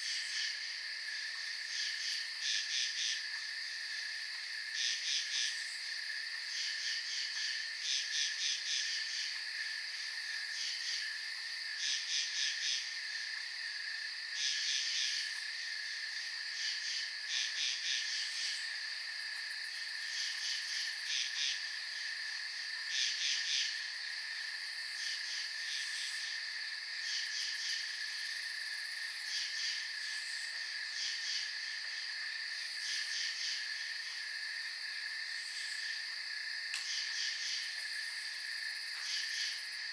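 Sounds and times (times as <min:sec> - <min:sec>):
crickets chirping: 0:00.0 - 0:39.9
insects trilling: 0:00.0 - 0:39.9.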